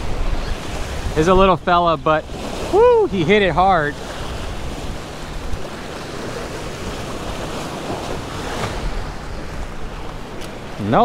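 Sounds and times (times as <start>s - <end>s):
surf breaking against rocks: 0.0s - 11.0s
wind buffeting microphone: 0.0s - 11.0s.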